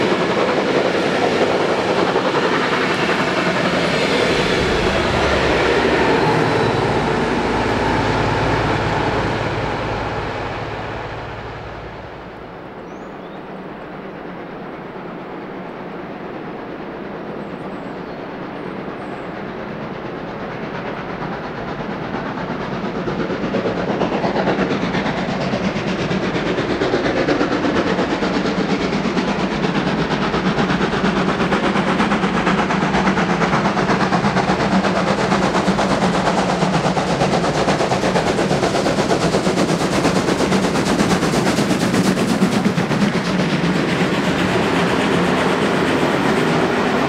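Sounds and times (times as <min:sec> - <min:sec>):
train wheels clattering on rails: 0:00.0 - 0:12.9, 0:18.3 - 0:47.0
steam locomotive exhaust beats: 0:00.0 - 0:47.0.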